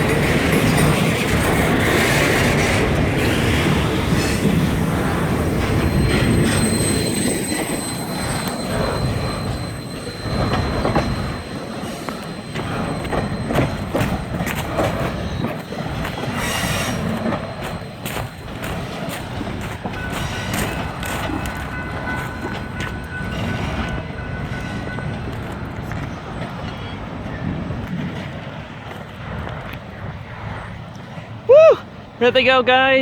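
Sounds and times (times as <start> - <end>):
high wheel squeal: 0.0 - 27.0
freight train rumble: 0.0 - 33.0.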